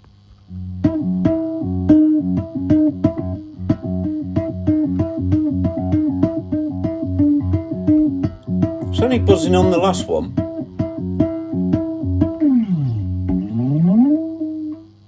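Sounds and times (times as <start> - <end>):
electric guitar picked low notes: 0.4 - 15.0.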